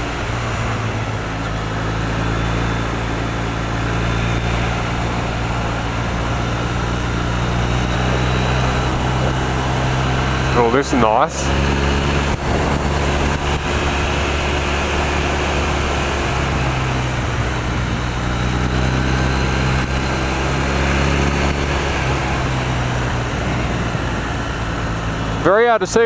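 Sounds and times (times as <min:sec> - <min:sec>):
wind rushing over microphone: 0:00.0 - 0:25.4
motorcycle engine running: 0:00.0 - 0:26.0.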